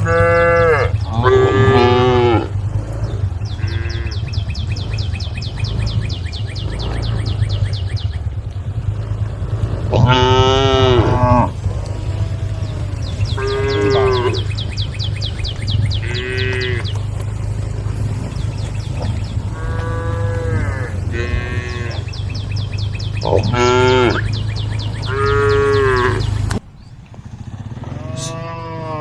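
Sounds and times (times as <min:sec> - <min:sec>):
cows mooing: 0:00.0 - 0:26.6, 0:27.7 - 0:29.0
steady low rumble: 0:00.0 - 0:28.4.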